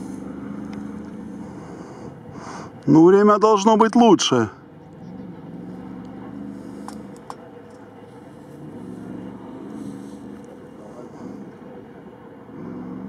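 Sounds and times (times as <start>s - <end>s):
car engine revving: 0.0s - 2.9s, 4.6s - 13.0s.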